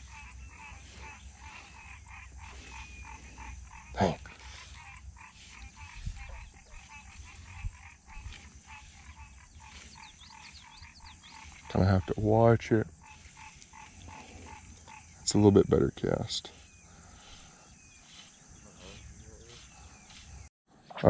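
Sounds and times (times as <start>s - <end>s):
frogs croaking: 0.0s - 20.5s.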